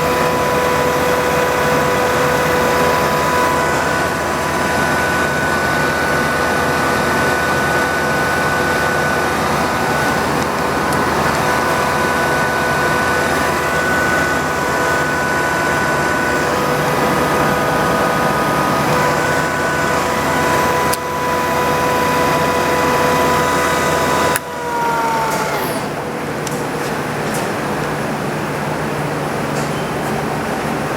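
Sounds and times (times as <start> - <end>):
milling machine hum and whine: 0.0 - 30.9.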